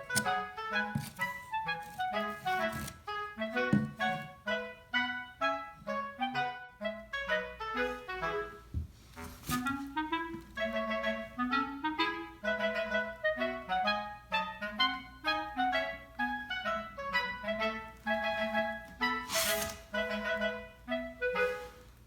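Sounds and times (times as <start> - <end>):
bouncy woodwind tune with bass: 0.0 - 22.0.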